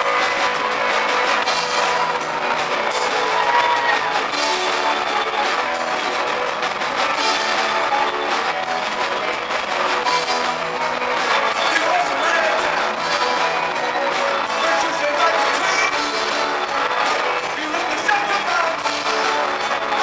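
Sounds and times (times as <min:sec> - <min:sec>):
drum kit: 0:00.0 - 0:20.0
electric bass: 0:00.0 - 0:20.0
electric guitar: 0:00.0 - 0:20.0.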